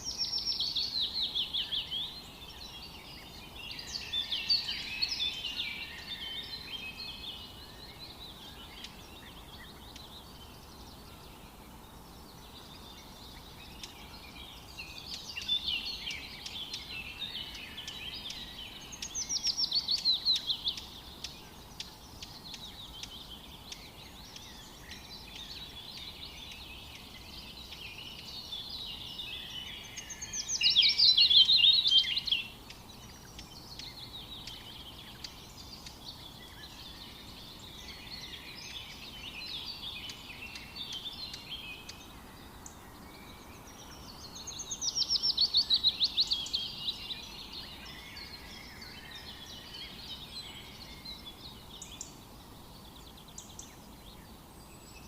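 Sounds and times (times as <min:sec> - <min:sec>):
background hiss: 0:00.0 - 0:55.0
songbirds singing and chirping: 0:00.0 - 0:55.0.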